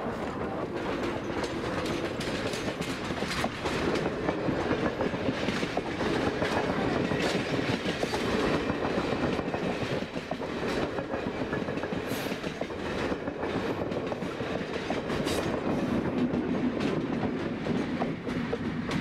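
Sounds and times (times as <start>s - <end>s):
train wheels clacking over rail joints: 0.0s - 19.0s.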